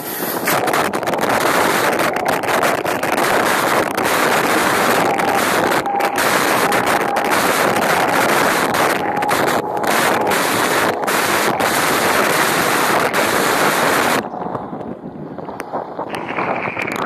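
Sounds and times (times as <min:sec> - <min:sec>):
water rushing along boat hull: 0:00.0 - 0:14.2
wind buffeting microphone: 0:00.0 - 0:17.0.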